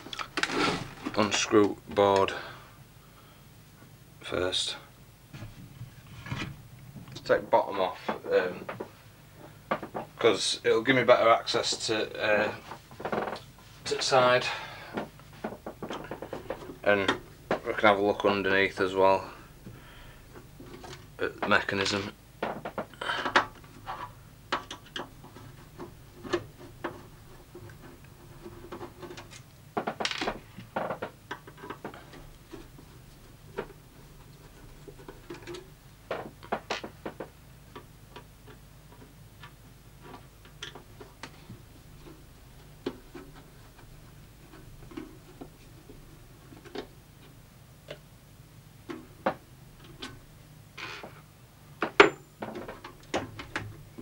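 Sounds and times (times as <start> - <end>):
faint steady low hum: 0.0 - 54.0.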